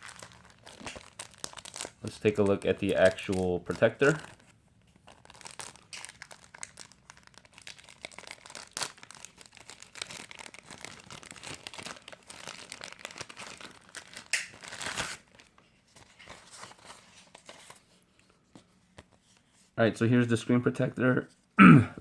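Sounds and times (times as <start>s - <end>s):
plastic packaging crinkling: 0.0s - 17.9s.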